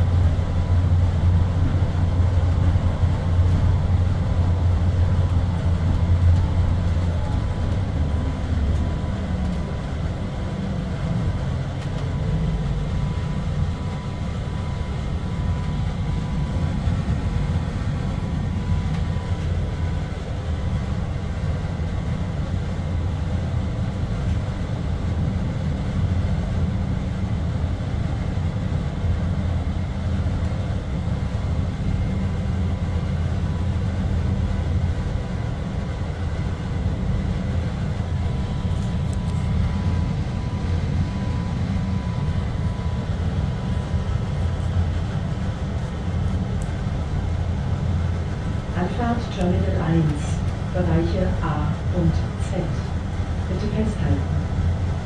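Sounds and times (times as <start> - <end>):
faint even whine: 0.0 - 26.0, 29.4 - 55.0
train car low rumble: 0.0 - 55.0.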